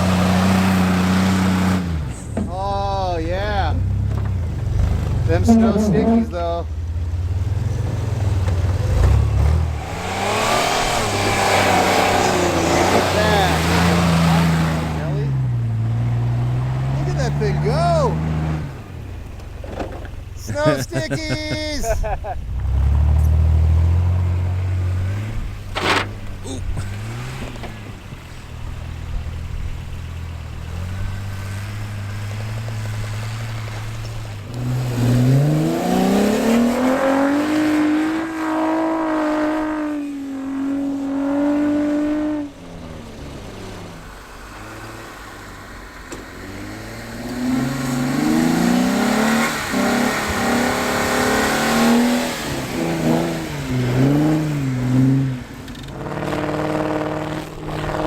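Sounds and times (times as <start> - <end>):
truck engine revving hard: 0.0 - 2.3, 2.9 - 19.2, 20.4 - 58.0.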